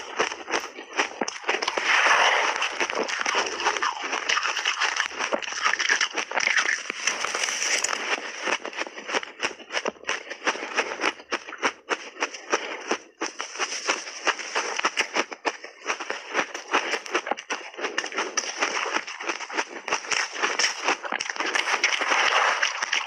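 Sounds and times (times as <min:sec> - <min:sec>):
crunching and chewing shaved ice: 0:00.0 - 0:23.0.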